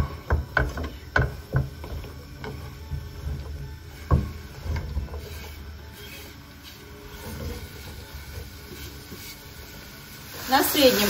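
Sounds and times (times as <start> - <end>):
mushrooms sizzling: 0.0 - 11.0
utensil scraping frying pan: 0.0 - 11.0.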